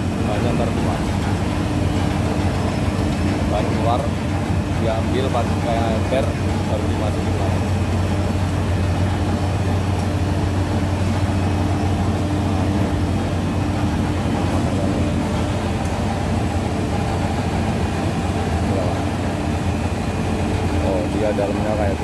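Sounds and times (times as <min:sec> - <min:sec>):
machinery motors humming: 0:00.0 - 0:22.0.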